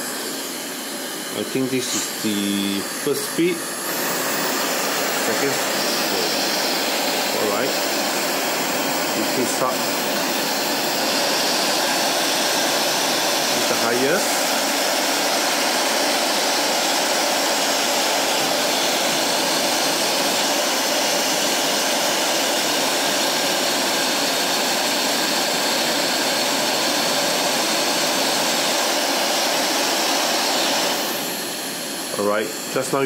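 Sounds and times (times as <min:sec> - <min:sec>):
hair dryer blowing air: 0:00.0 - 0:33.0.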